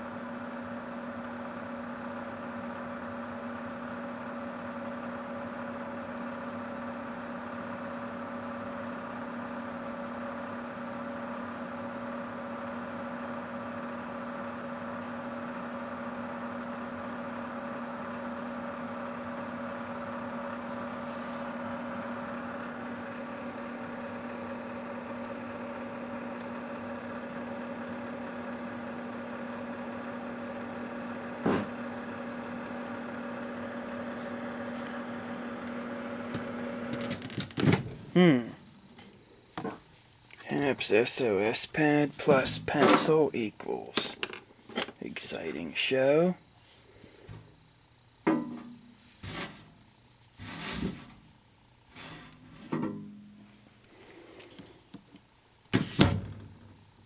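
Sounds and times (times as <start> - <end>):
microwave oven humming: 0.0 - 57.0.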